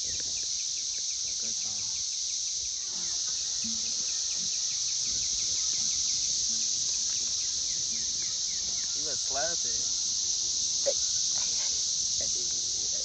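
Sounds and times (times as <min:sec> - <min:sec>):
insect chirping: 0:00.0 - 0:13.0
insects buzzing: 0:00.0 - 0:13.0.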